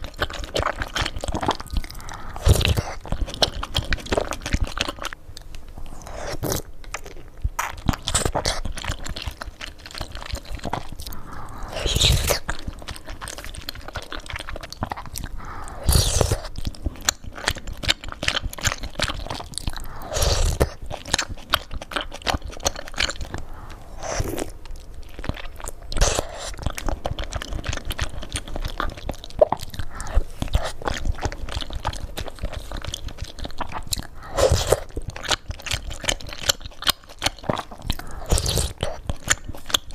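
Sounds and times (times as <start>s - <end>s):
chewing with crunching: 0.0s - 39.9s.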